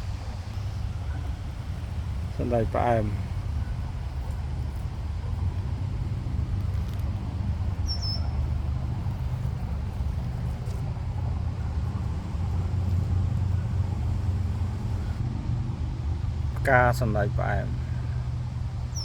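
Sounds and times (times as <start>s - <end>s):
car road rumble: 0.0s - 19.0s.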